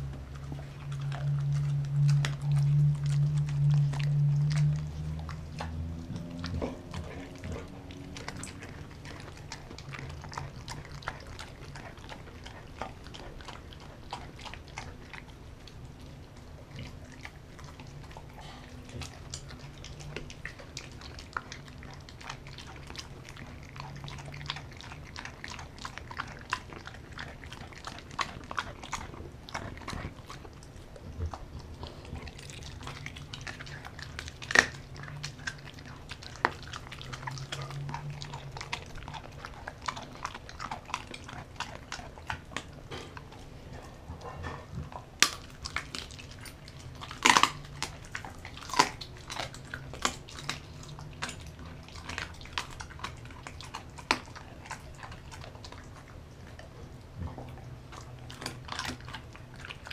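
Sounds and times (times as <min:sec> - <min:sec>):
teeth clicking: 0:00.0 - 0:43.4, 0:44.9 - 0:56.0
dog chewing meat: 0:00.0 - 0:59.9.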